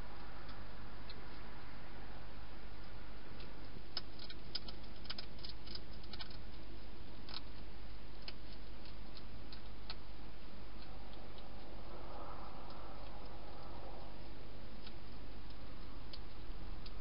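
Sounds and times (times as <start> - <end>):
steady low hum: 0.0 - 17.0
hedgehog crunching food: 2.8 - 17.0.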